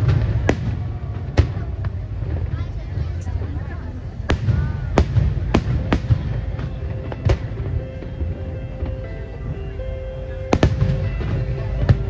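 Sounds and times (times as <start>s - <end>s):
fireworks bangs: 0.0s - 9.6s, 10.2s - 12.0s
music: 0.0s - 12.0s.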